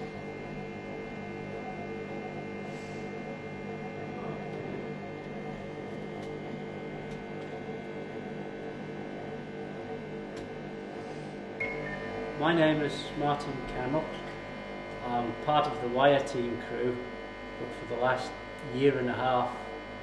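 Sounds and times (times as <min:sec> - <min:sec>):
cooling fan running: 0:00.0 - 0:20.0
electrical drone of rectifier: 0:00.0 - 0:20.0.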